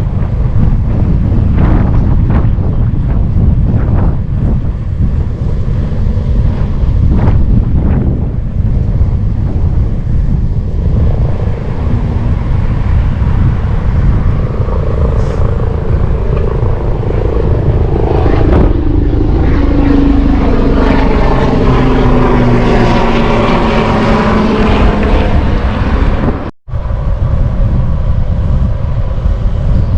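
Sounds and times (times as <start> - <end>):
passing vehicle engine drone: 0.0 - 29.9
wind buffeting microphone: 0.0 - 29.9.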